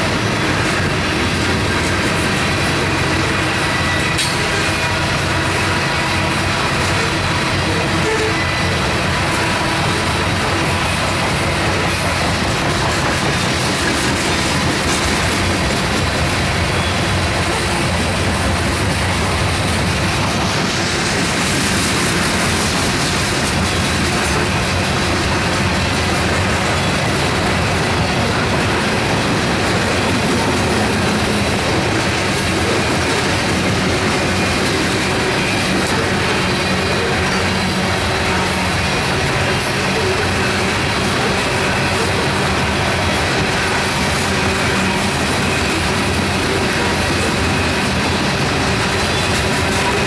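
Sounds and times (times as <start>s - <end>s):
train wheels clattering over rails: 0.0s - 50.0s.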